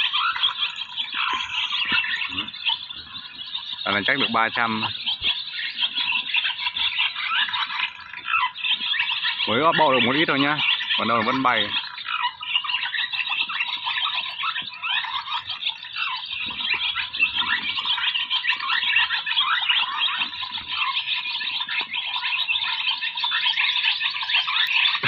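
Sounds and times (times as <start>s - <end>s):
swallows twittering: 0.0s - 25.0s.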